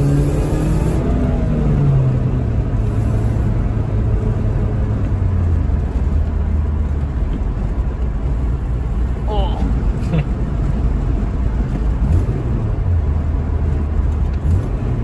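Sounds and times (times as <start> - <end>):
car engine droning: 0.0 - 15.0
road rumble: 0.0 - 15.0.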